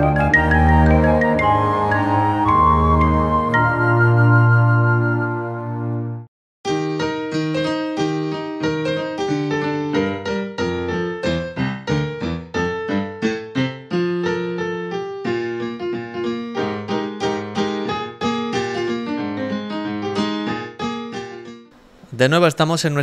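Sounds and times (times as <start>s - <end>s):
piano melody over chords: 0.0s - 22.0s.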